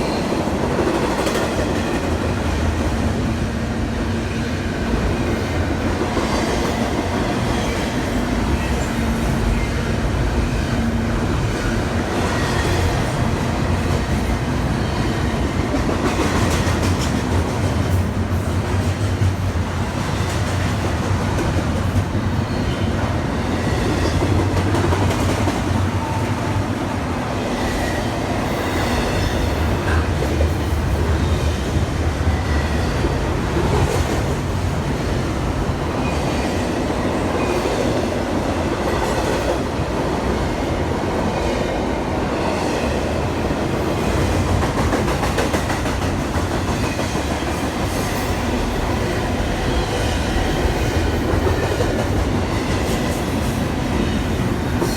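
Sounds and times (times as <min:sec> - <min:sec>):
train wheels clacking on rails: 0:00.0 - 0:03.2, 0:04.6 - 0:26.7, 0:27.4 - 0:54.9
train rumbling past: 0:00.0 - 0:54.9.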